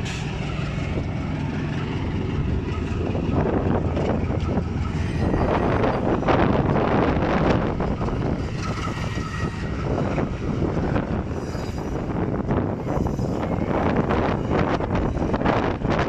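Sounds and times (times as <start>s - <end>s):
train rumbling: 0.0s - 16.0s
wind buffeting microphone: 0.0s - 16.0s.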